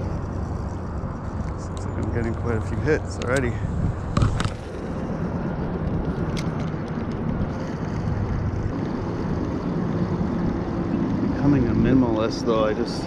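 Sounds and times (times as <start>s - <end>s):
distant motor traffic rumble: 0.0s - 13.0s.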